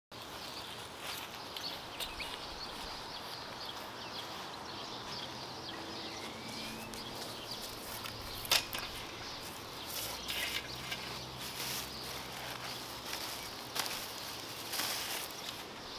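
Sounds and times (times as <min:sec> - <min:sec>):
footsteps and rustling in grass: 0:00.1 - 0:15.9
small birds chirping: 0:00.1 - 0:15.9.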